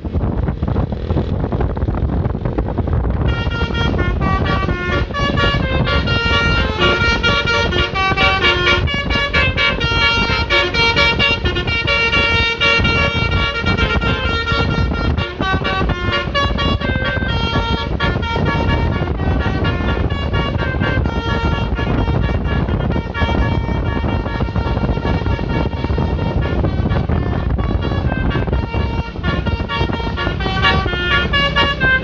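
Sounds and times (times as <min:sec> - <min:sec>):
engine and road rumble: 0:00.0 - 0:32.0
multi-tone vehicle horn melody: 0:03.3 - 0:32.0.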